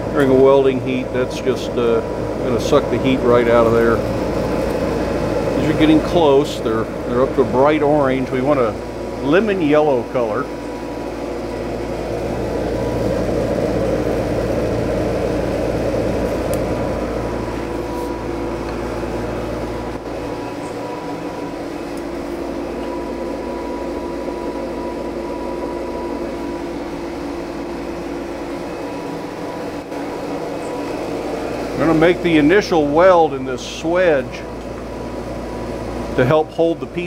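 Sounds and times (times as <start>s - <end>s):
forge fire roaring: 0.0s - 37.0s.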